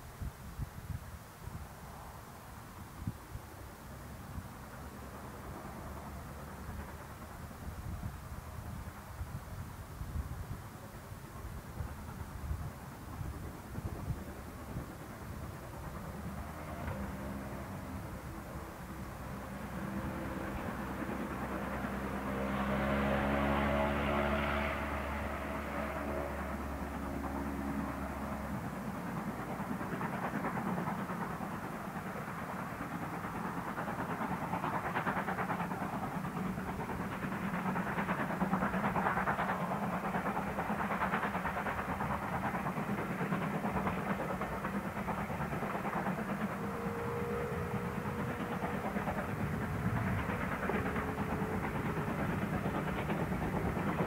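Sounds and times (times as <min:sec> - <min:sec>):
steam locomotive exhaust beats: 0:00.0 - 0:54.0.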